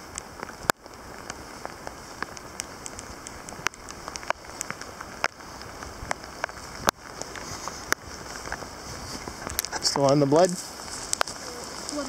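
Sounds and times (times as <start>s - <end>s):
outdoor hiss: 0.0s - 12.0s
sharp ticks and taps: 0.1s - 8.7s, 9.4s - 12.0s.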